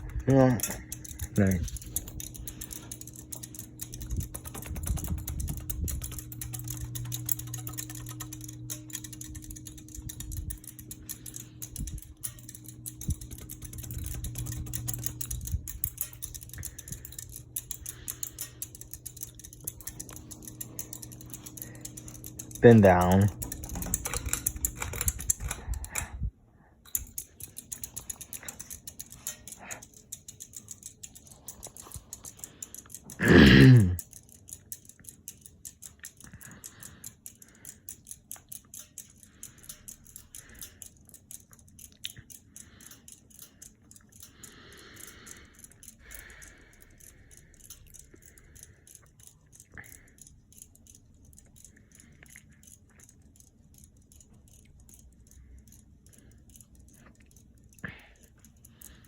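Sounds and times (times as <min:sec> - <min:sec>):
ceiling fan ticking: 0:00.0 - 0:59.0.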